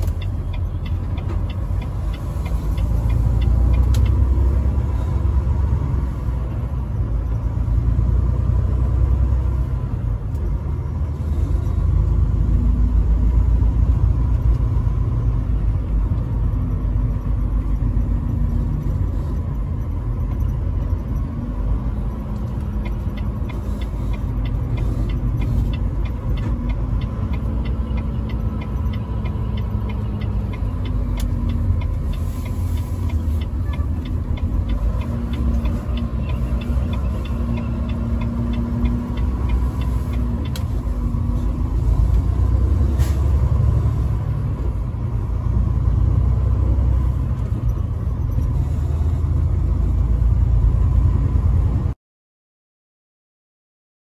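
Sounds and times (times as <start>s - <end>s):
truck engine and road rumble: 0.0s - 52.0s
turn signal ticking: 0.0s - 52.0s.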